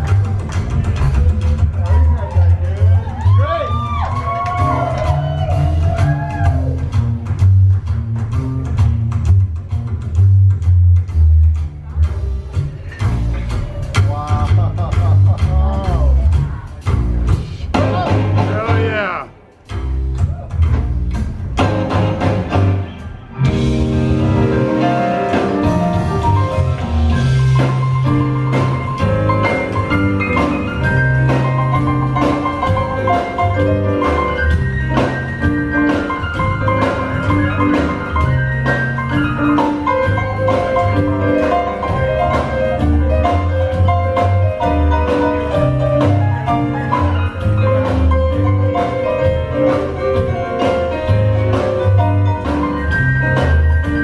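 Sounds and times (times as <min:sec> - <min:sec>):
drums: 0:00.0 - 0:54.0
rock and roll band playing: 0:00.0 - 0:54.0
upright bass line: 0:00.0 - 0:54.0.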